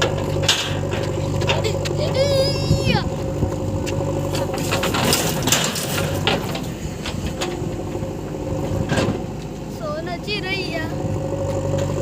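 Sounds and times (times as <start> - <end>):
diesel engine running: 0.0 - 12.0
soil and gravel rattling rush: 0.0 - 12.0.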